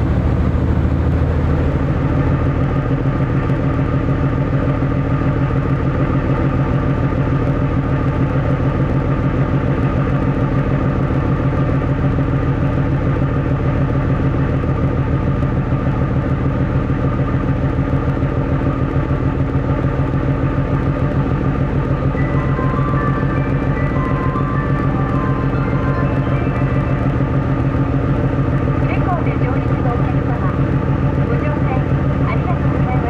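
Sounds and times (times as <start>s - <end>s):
diesel engine drone: 0.0s - 33.0s.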